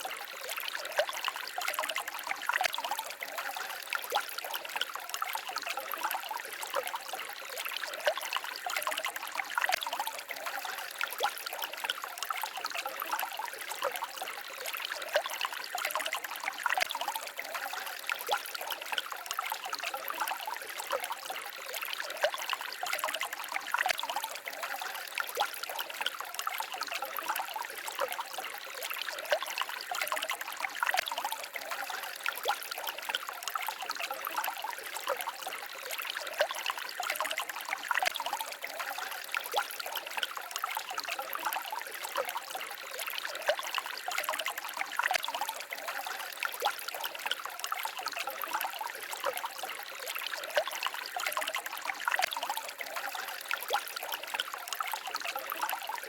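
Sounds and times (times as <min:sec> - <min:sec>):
small water splashes: 0:00.0 - 0:56.0
stream babbling and trickling: 0:00.0 - 0:56.0.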